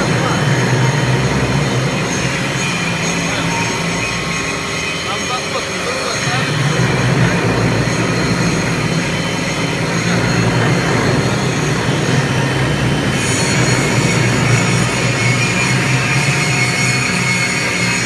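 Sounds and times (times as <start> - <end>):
high-pitched cutting whine: 0.0 - 18.0
steady machine hum: 0.0 - 18.0.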